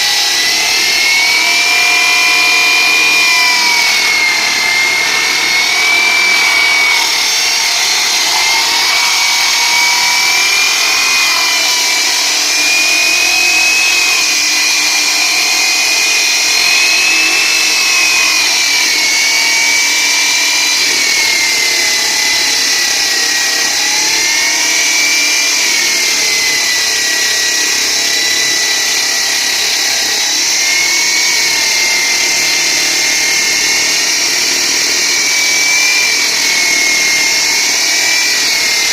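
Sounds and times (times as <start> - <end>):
power saw cutting concrete: 0.0 - 38.9.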